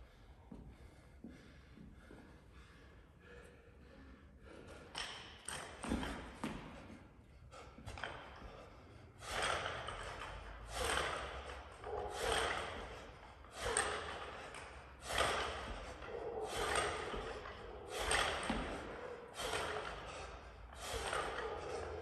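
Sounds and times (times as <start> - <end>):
heavy rhythmic breathing: 0.0 - 22.0.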